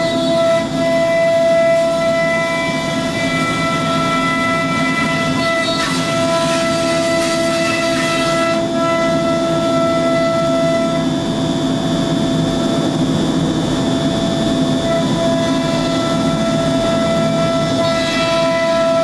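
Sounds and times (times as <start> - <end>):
router spindle high whine: 0.0 - 19.0.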